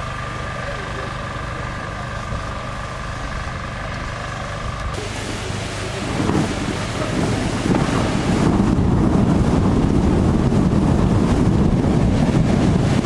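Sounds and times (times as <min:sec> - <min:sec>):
wind buffeting microphone: 0:02.2 - 0:13.0.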